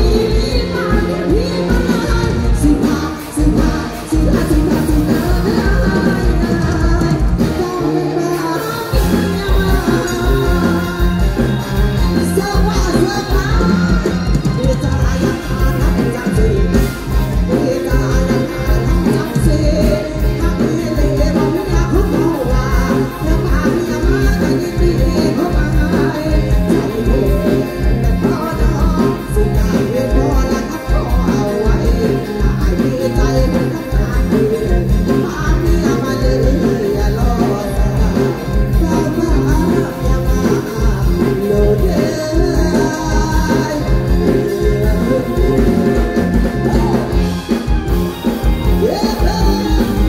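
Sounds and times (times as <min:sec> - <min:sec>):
woman singing into a microphone: 0:00.0 - 0:47.3, 0:48.6 - 0:50.0
live band playing: 0:00.0 - 0:50.0.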